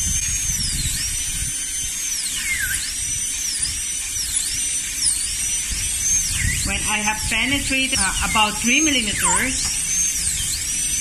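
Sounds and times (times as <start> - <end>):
dental drill whining: 0.0 - 11.0.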